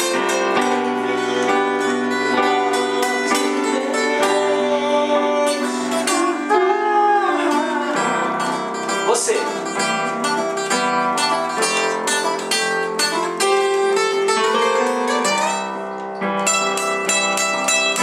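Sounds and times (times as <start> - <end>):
acoustic guitar plucked and strummed: 0.0 - 18.0
electric keyboard held notes: 0.0 - 18.0.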